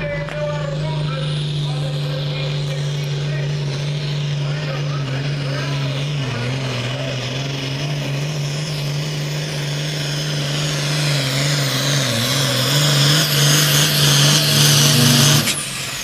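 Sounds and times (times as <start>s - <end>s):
diesel tractor engine at full throttle: 0.0s - 16.0s.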